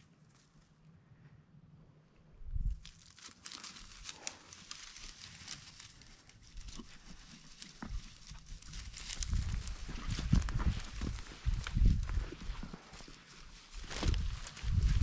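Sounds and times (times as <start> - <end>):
dry grass crackling and rustling: 2.4 - 15.0.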